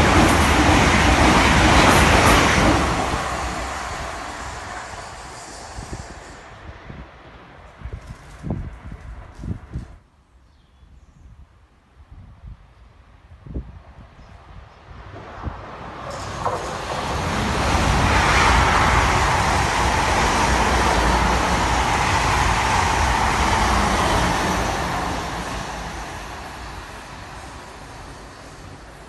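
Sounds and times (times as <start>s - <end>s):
train wheels rumbling on rail: 0.0s - 10.0s, 15.0s - 29.0s.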